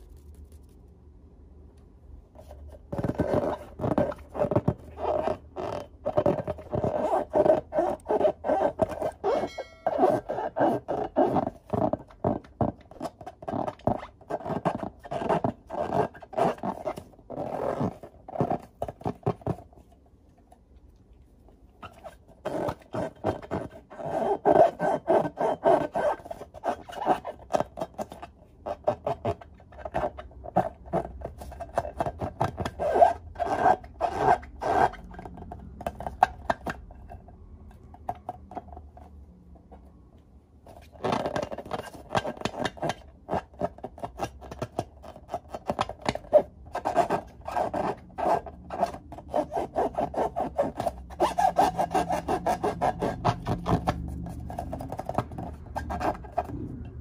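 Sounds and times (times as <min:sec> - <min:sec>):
hands rubbing balloons: 0:00.0 - 0:01.0, 0:02.3 - 0:20.0, 0:21.8 - 0:36.8, 0:40.7 - 0:57.0.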